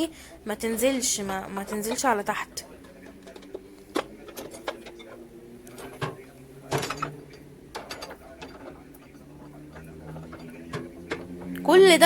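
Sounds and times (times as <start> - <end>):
dishes clattering in dishwasher rack: 1.0 - 11.7.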